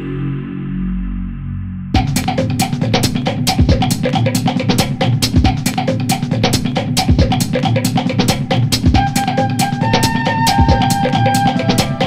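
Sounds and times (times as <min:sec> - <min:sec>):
music with drum beat: 0:02.0 - 0:12.0.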